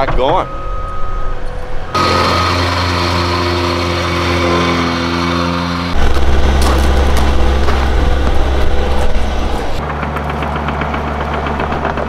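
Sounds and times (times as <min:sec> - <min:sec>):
loud deep engine drone: 0:00.6 - 0:12.0
plate compactor engine running: 0:01.9 - 0:12.0.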